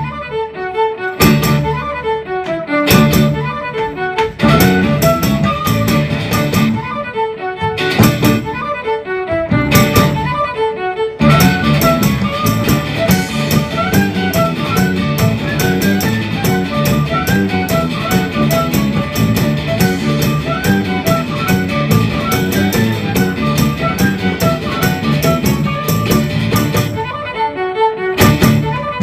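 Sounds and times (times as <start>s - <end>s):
fiddle playing a tune: 0.0s - 29.0s
folk band playing a polka: 0.0s - 29.0s
quick percussive beat: 1.2s - 1.8s, 2.9s - 7.0s, 7.6s - 8.7s, 9.4s - 10.5s, 11.2s - 27.1s, 28.2s - 29.0s.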